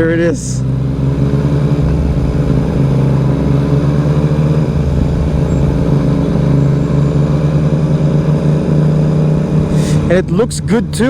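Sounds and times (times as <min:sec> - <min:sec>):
motorcycle engine deep exhaust note: 0:00.0 - 0:11.0.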